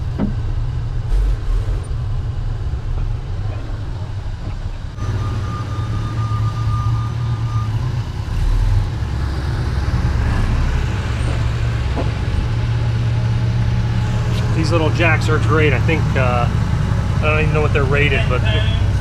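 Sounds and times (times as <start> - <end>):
forklift engine running: 0.0 - 19.0.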